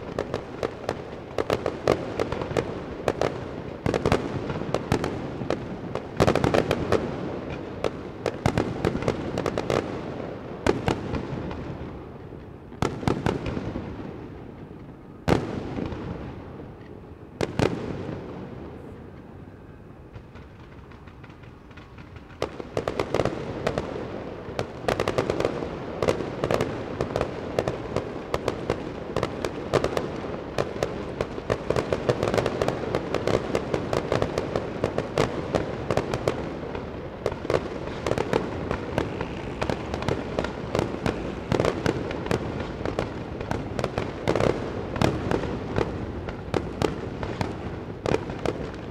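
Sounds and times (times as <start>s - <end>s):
rapid firework bangs and crackling: 0.0s - 19.4s, 20.0s - 48.9s.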